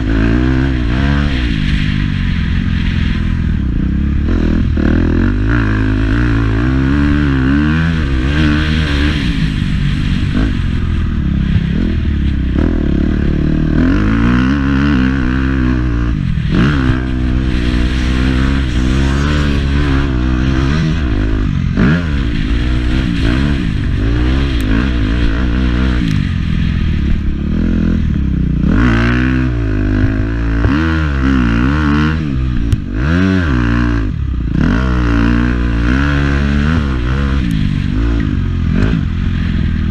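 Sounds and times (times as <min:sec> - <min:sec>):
motocross bike engine revving: 0:00.0 - 0:39.9
steady low rumble: 0:00.0 - 0:39.9.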